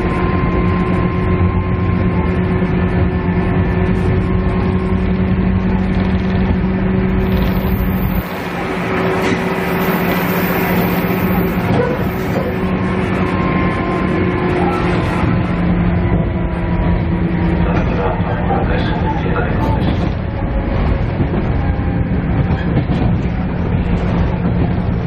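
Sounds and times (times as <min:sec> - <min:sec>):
diesel engine droning: 0:00.0 - 0:25.0
train wheels rolling on rails: 0:00.1 - 0:25.0.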